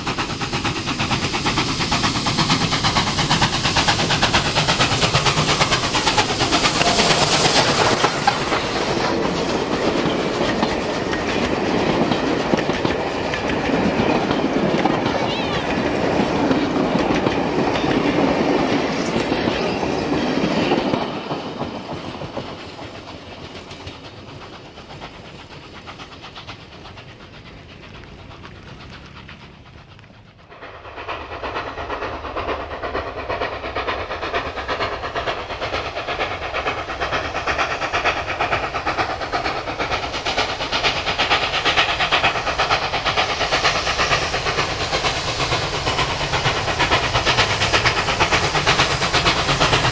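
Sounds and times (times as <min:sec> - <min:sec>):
steam locomotive chuffing: 0:00.0 - 0:49.9
train wheels clicking over rail joints: 0:00.0 - 0:49.9.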